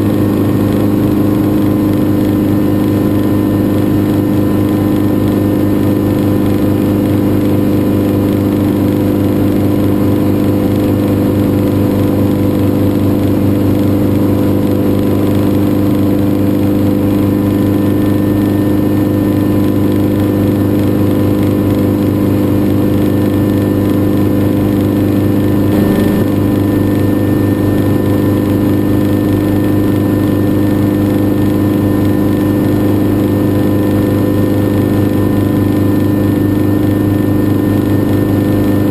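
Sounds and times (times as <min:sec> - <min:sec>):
helicopter engine and rotors droning: 0:00.0 - 0:38.9.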